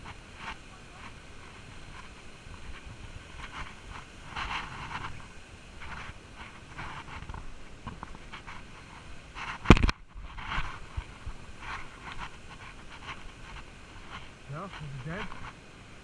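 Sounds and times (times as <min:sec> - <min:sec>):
footsteps on dirt trail: 0:00.0 - 0:15.6
brush rustling against clothing: 0:00.0 - 0:16.0.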